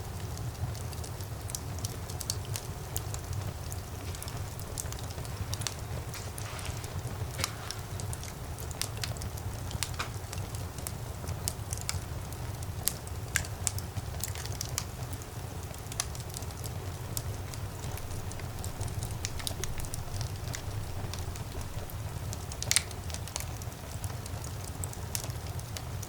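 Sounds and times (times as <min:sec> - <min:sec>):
wood fire crackling in fireplace: 0:00.0 - 0:26.0.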